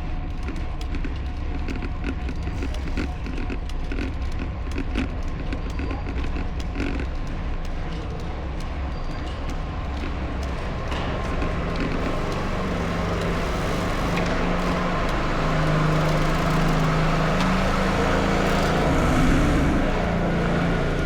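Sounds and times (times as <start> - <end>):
vehicle engine running: 0.0 - 21.0
road noise: 0.3 - 21.0.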